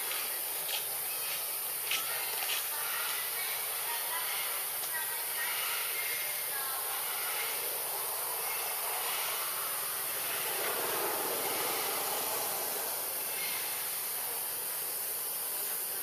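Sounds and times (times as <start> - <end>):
forest background hiss: 0.0 - 16.0.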